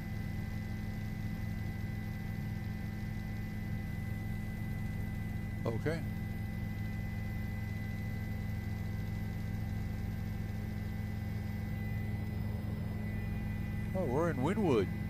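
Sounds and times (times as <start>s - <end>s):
low hum: 2.2s - 15.0s.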